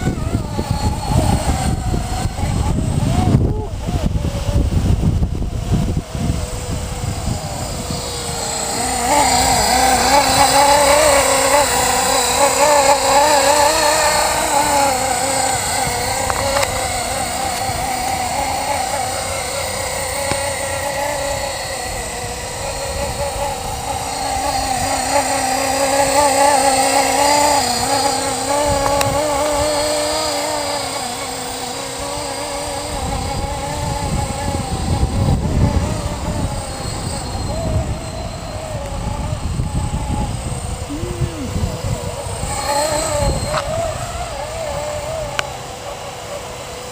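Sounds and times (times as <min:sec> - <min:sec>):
wind buffeting on microphone: 0:00.0 - 0:46.1
rc helicopter motor whine: 0:00.0 - 0:46.9.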